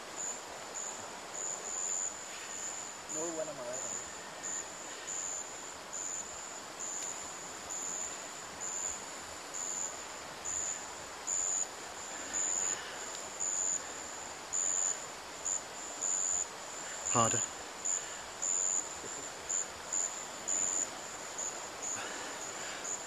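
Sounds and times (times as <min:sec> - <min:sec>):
faint forest ambience hiss: 0:00.0 - 0:23.0
insect buzzing: 0:00.1 - 0:23.0.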